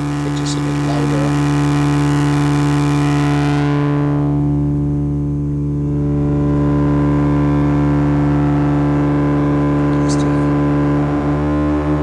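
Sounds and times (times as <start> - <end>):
synth drone with closing filter: 0.0 - 12.0.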